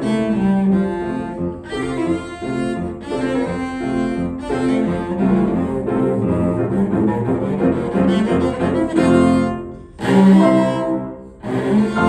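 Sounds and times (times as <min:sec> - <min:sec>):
cello bowing sustained notes: 0:00.0 - 0:12.0
grand piano accompaniment: 0:00.0 - 0:12.0.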